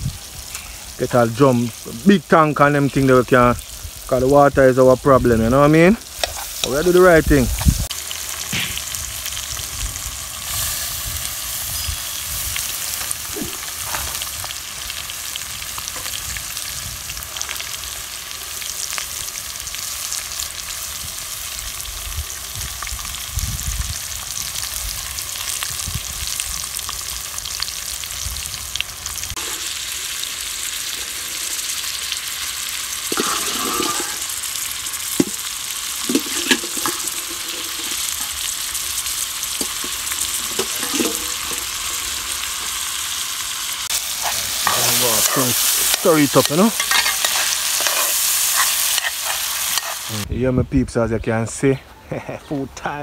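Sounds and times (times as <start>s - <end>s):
food sizzling in a pot: 0.0s - 50.3s.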